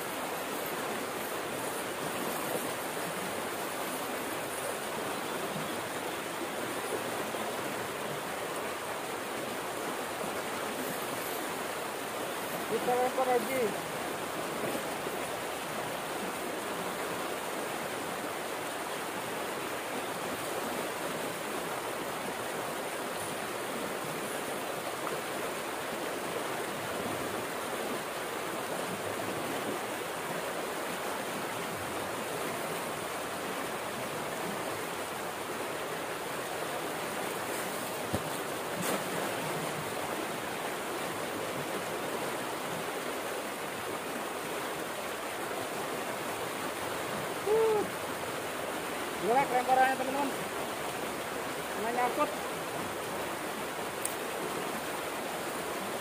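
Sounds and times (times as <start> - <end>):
water rushing from a pipe: 0.0 - 56.0.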